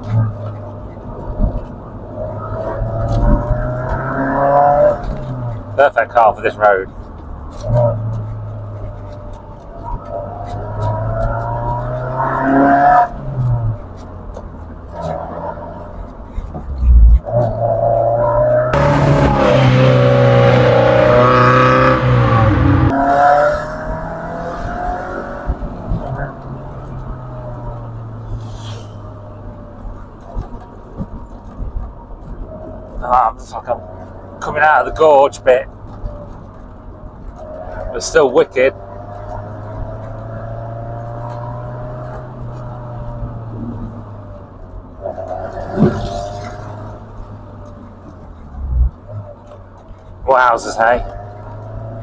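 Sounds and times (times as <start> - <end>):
car engine and exhaust: 0.0 - 52.0
road and wind noise: 0.0 - 52.0.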